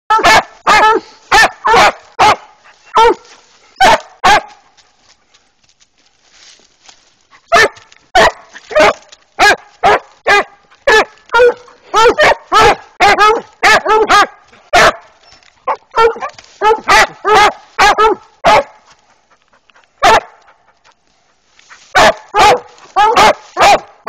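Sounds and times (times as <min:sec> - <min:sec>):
hounds barking: 0:00.1 - 0:04.6, 0:07.4 - 0:20.9, 0:21.8 - 0:24.0.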